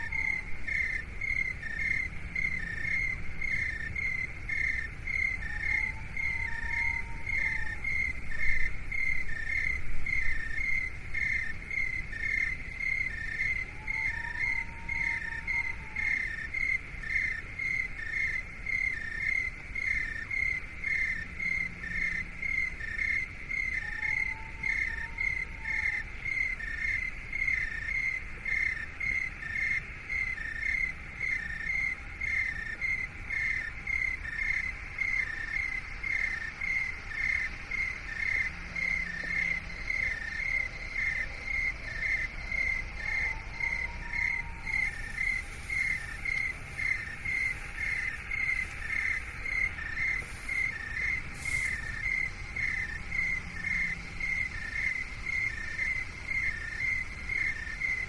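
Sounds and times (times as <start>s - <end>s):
cricket-like chirping: 0.0s - 58.0s.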